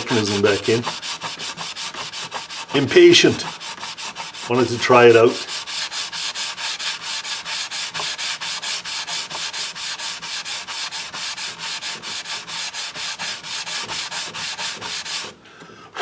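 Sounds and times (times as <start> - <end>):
sanding block rubbing: 0.0 - 15.4.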